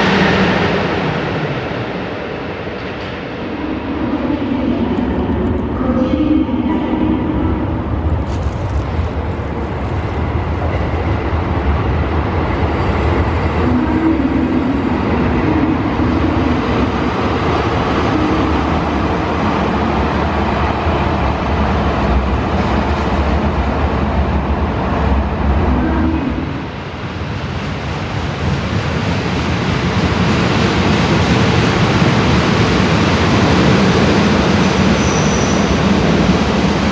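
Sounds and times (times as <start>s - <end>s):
diesel railcar engine rumble: 0.0s - 36.9s.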